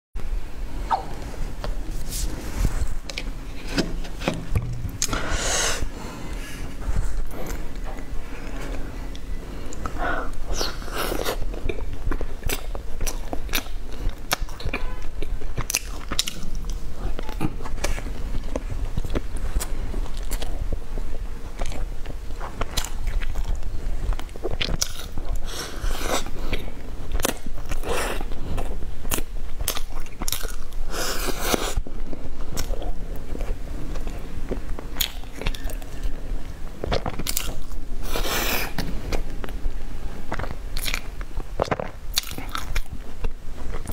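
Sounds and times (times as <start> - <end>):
biting and chewing mouth sounds: 0.9 - 43.9.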